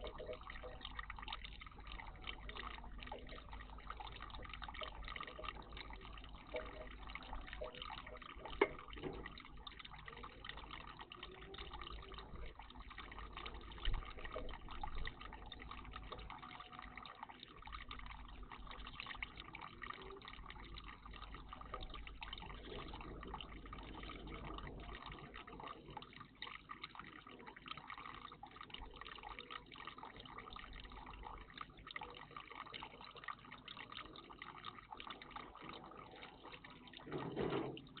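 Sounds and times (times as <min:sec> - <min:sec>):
water trickling and dripping: 0:00.0 - 0:38.0.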